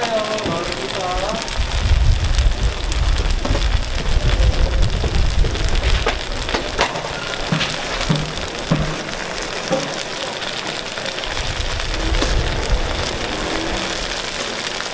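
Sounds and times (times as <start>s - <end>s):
batter sizzling on griddle: 0.0s - 14.9s
deep low rumble: 0.6s - 14.9s.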